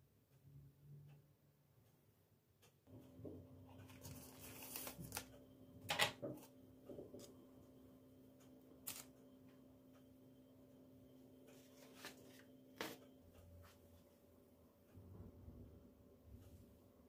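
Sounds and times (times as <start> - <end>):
low electric hum: 0.0 - 17.0.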